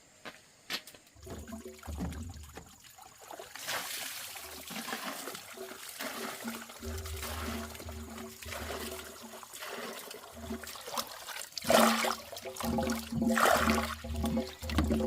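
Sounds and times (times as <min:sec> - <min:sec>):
water splashing and pouring: 0:01.2 - 0:15.0.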